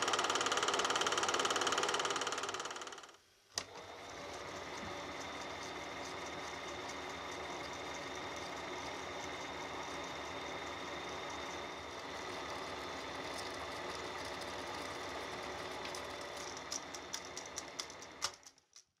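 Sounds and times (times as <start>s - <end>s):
film projector whirring: 0.0s - 18.5s.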